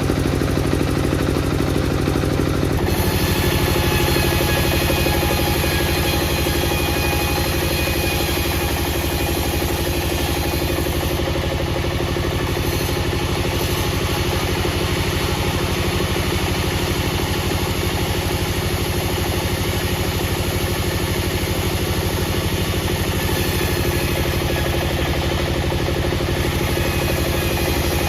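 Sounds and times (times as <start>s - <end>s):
engine running with low pulsing hum: 0.0s - 28.0s.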